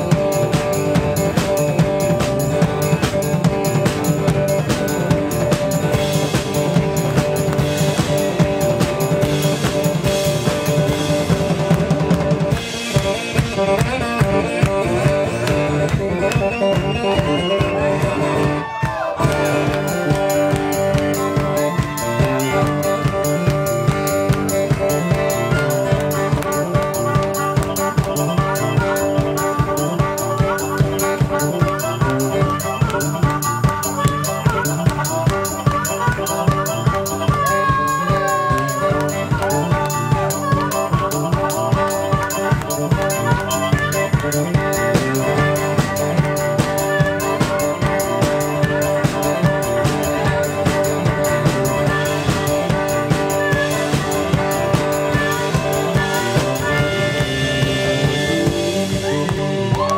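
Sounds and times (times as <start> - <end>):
drum kit beat: 0.0 - 59.9
harmonica solo: 0.0 - 59.9.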